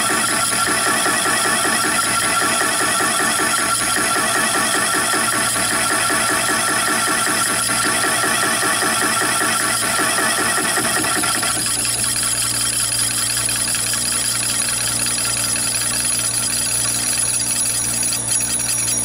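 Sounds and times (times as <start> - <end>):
lathe high whine: 0.0 - 19.0.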